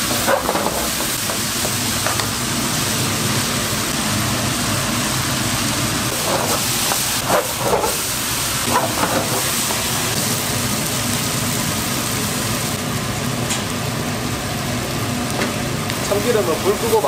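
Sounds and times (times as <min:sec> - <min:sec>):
mushrooms sizzling in a hot pan: 0:00.0 - 0:17.0.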